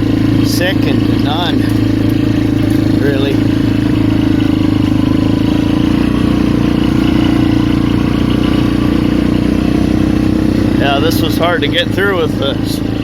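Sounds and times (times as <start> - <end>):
atv engine running steadily: 0.0 - 13.0.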